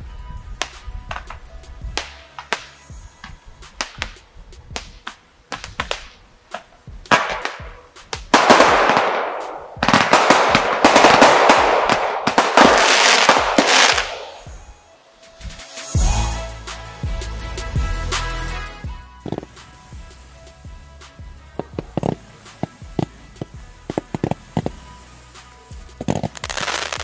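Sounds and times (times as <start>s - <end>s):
fireworks crackling: 0.0s - 16.3s, 18.1s - 27.0s.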